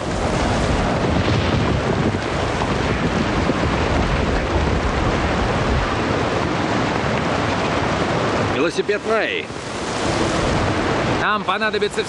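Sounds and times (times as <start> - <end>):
heavy rain: 0.0 - 12.0
wind: 0.0 - 12.0.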